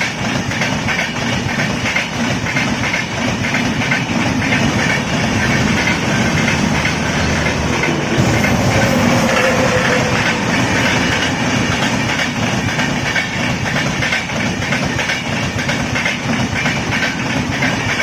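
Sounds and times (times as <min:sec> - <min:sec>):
train rumbling on track: 0:00.0 - 0:18.0
wheels clattering over rail joints: 0:00.0 - 0:18.0.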